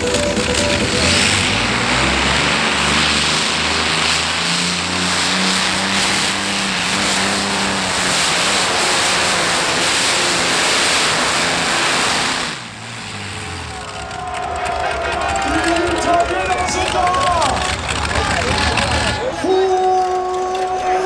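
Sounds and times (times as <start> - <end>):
tractor engines at full power: 0.0 - 21.0.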